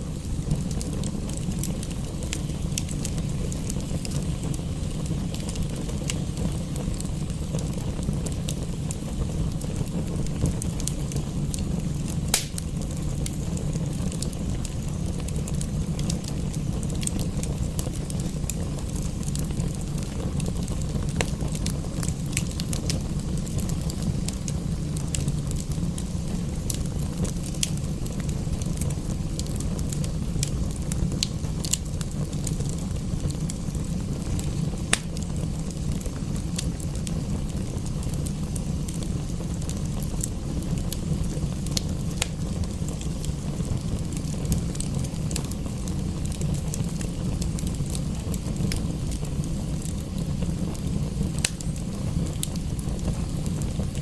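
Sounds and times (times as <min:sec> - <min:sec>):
wood fire crackling: 0:00.0 - 0:54.0
sharp pops of fire: 0:00.1 - 0:54.0.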